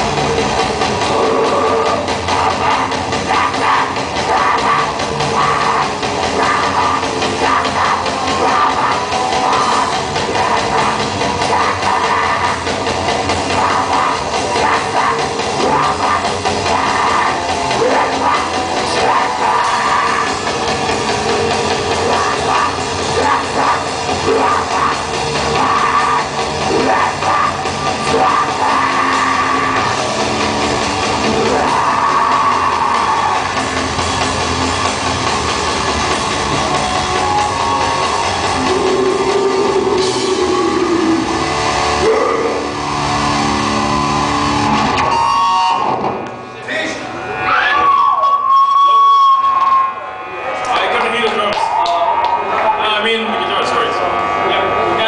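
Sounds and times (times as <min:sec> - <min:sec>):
drum kit: 0:00.0 - 0:46.4
rock band playing live: 0:00.0 - 0:52.7.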